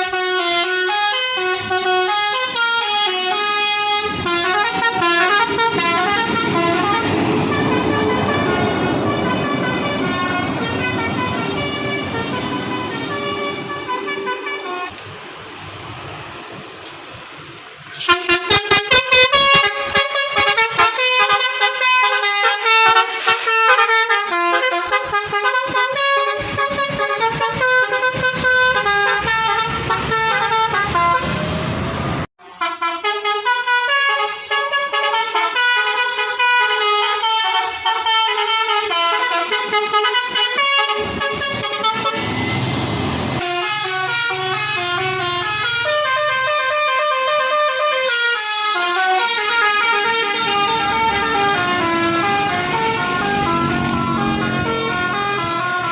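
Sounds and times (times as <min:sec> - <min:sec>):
bus musical horn tunes: 0:00.0 - 0:15.0, 0:17.9 - 0:31.7, 0:32.4 - 0:42.8, 0:43.4 - 0:55.9.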